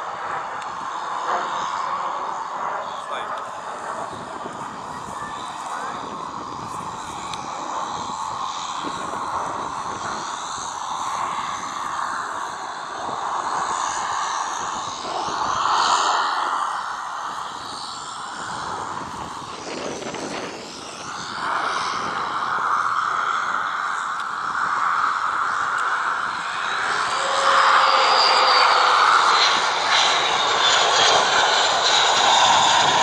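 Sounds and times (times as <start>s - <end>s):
fighter jet engines roaring: 0.0s - 33.0s.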